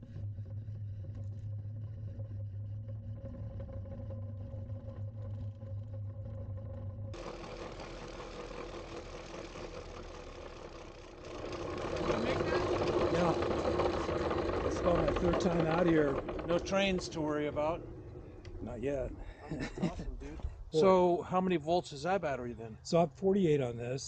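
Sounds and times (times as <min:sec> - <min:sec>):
electric motor hum: 0:00.0 - 0:19.8
wheels rumbling on rails: 0:00.0 - 0:19.9.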